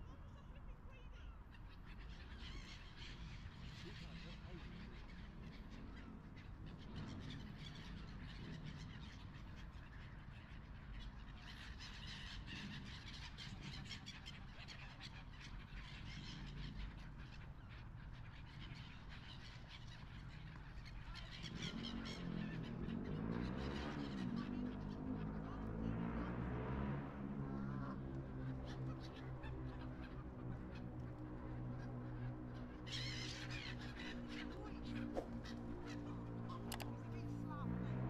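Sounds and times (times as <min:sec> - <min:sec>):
gulls and waterbirds calling: 0:00.0 - 0:26.2, 0:27.5 - 0:38.0.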